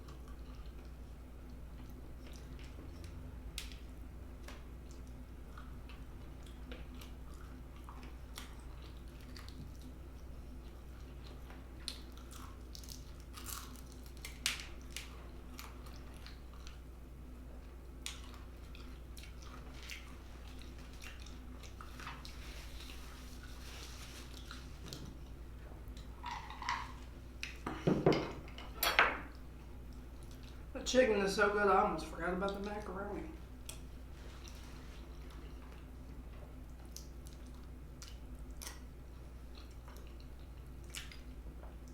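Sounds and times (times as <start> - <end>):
chewing crispy chicken: 0.0 - 27.6, 29.9 - 30.7, 33.5 - 41.9.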